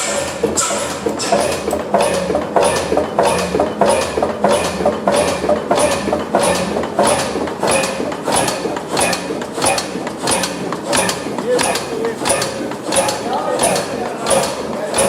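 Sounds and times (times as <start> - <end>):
old stationary engine clattering: 0.0 - 15.0.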